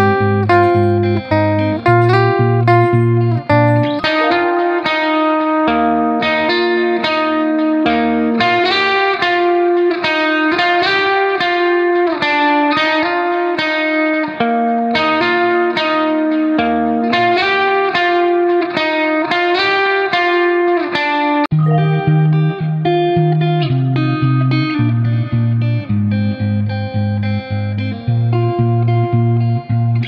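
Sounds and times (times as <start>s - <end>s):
guitar picking: 0.0s - 30.0s.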